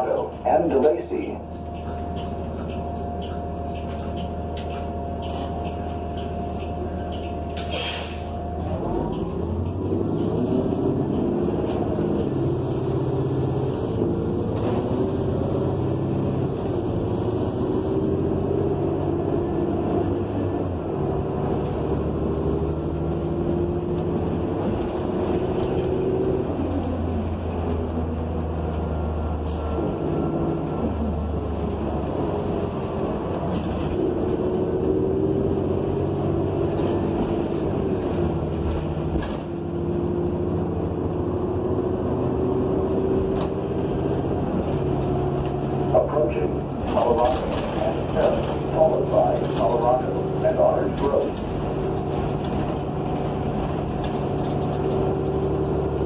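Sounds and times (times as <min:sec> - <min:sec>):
bus engine droning: 0:00.0 - 0:56.0
road rumble: 0:00.0 - 0:56.0.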